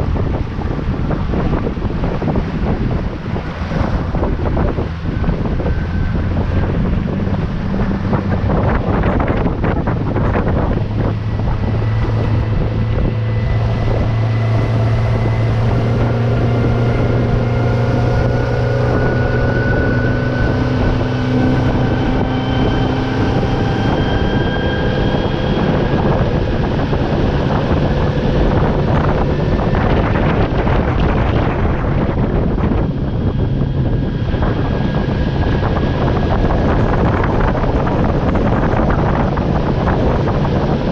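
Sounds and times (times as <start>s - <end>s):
outboard motor running: 0.0s - 40.9s
wind noise on microphone: 0.0s - 40.9s.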